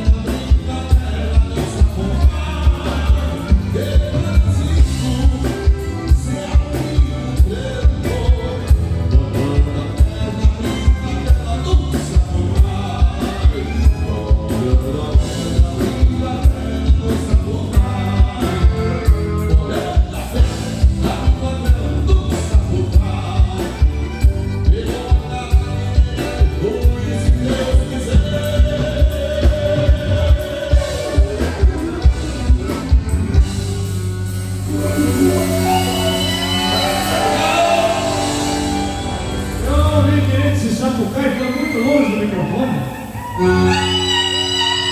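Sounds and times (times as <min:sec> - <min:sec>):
live band music with singing: 0:00.0 - 0:44.9.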